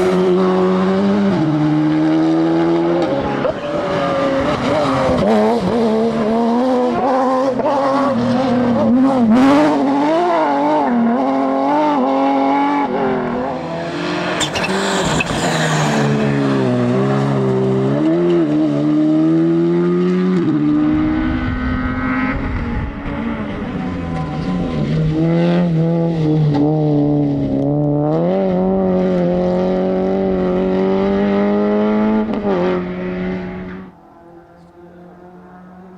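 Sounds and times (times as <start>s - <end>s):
rally car engine revving: 0.0s - 35.9s.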